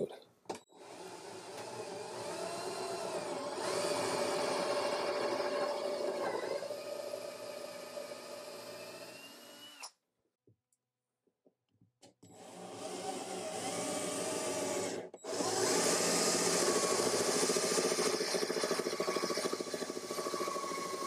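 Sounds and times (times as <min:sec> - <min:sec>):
cordless drill whining: 0:00.7 - 0:10.0, 0:12.2 - 0:21.0.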